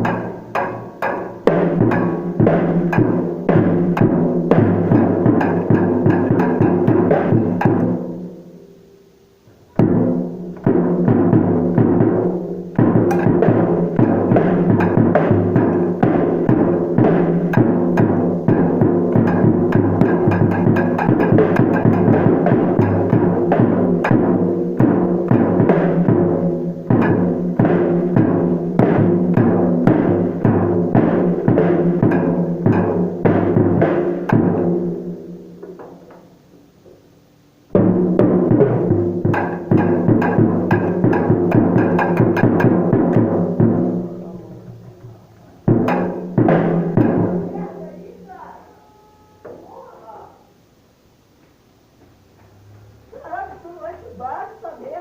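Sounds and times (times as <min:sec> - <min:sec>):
drum kit playing: 0:00.0 - 0:08.8, 0:09.4 - 0:50.3.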